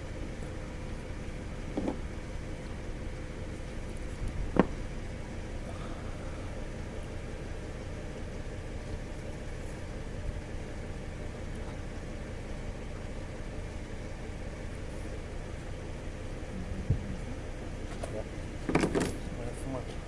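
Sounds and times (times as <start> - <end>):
petrol engine idling: 0.0 - 20.0.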